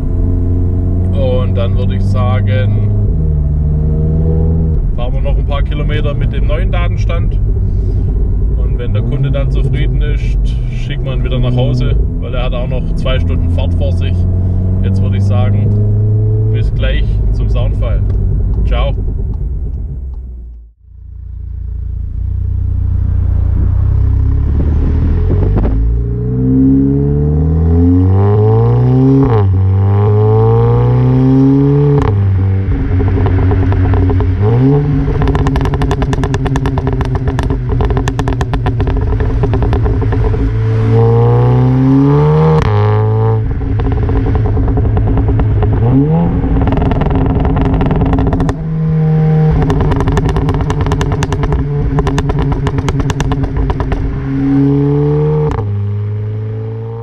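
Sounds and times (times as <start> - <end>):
car exhaust revving: 0.0 - 57.0
exhaust crackling and popping: 0.0 - 57.0.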